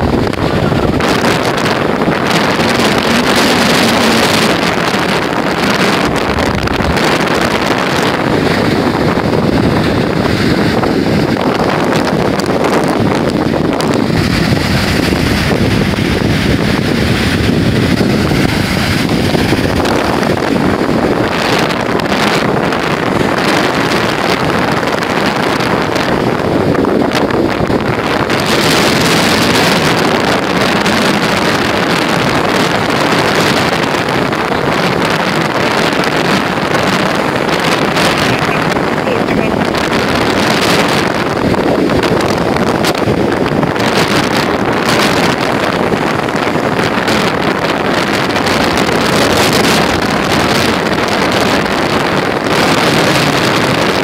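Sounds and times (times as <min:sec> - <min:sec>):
surf breaking on shore: 0:00.0 - 0:54.0
wind buffeting microphone: 0:00.0 - 0:54.0.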